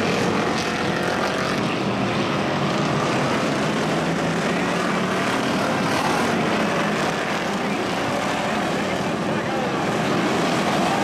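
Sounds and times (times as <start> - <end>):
stock car engines racing: 0.0 - 11.0.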